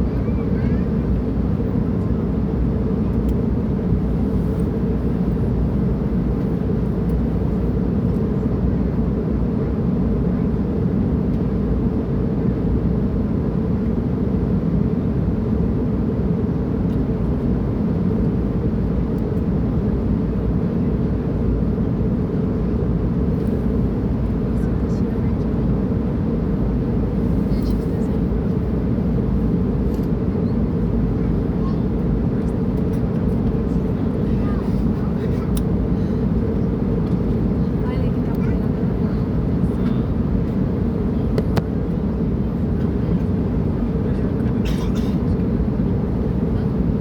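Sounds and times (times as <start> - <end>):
airliner cabin rumble: 0.0 - 47.0.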